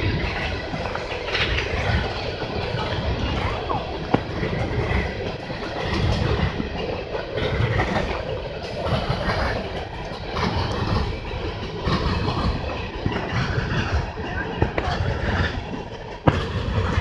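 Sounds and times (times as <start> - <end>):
train rumbling over bridge: 0.0 - 17.0
train wheel clatter: 0.0 - 17.0.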